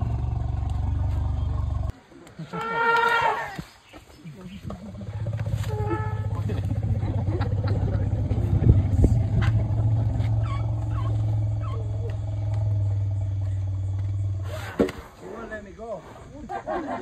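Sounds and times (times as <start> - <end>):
elephants rumbling: 0.0 - 16.7.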